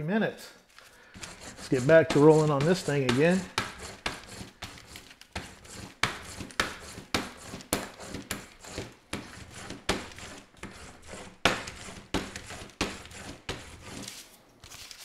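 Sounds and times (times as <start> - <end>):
roller rasping over plastic sheet: 1.2 - 14.2.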